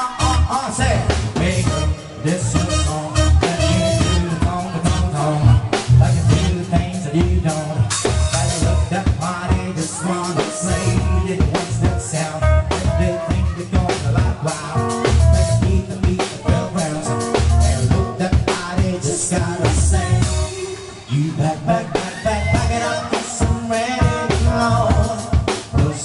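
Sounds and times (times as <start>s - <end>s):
drum kit beat: 0.0s - 26.0s
electric keyboards: 0.0s - 26.0s.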